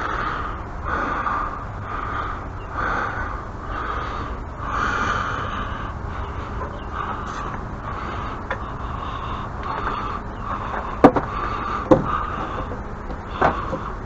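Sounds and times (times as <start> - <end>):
person breathing hard: 0.0 - 14.0
steady low rumble: 0.0 - 14.0.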